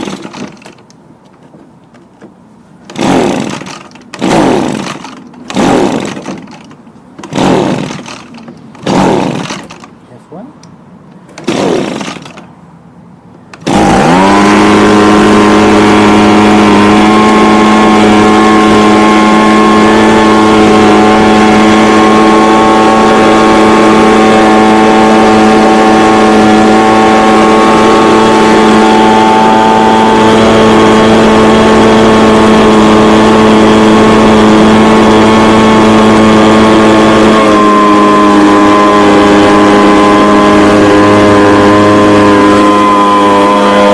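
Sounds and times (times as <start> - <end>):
blower engine running: 0.0 - 43.9.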